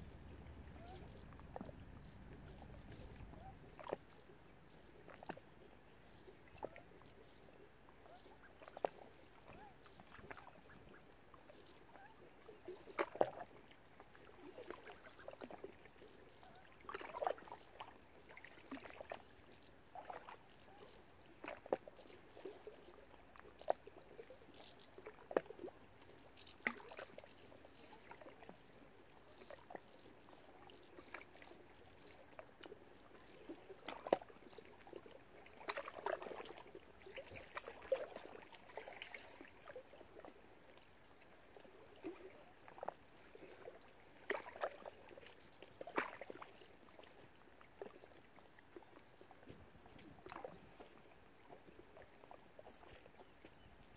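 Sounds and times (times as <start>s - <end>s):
water splashing and trickling: 0.0s - 53.9s.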